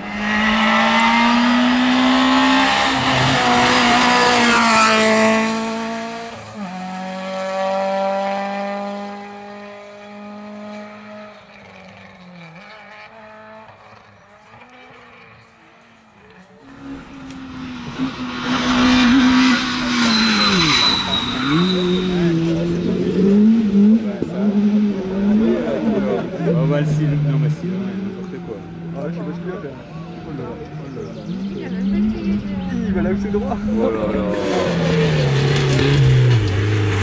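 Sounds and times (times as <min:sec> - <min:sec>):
rally car engine at high revs: 0:00.0 - 0:37.0
second rally car at high revs: 0:00.0 - 0:37.0.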